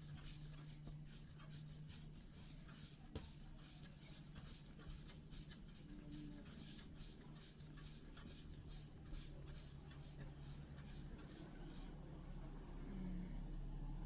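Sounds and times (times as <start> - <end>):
palm rubbing dough on a table: 0.0 - 12.0.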